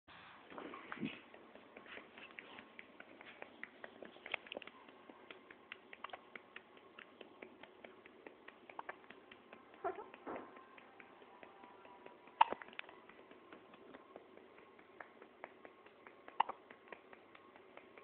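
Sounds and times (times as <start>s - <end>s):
newborn hiccupping: 0.5s - 18.0s.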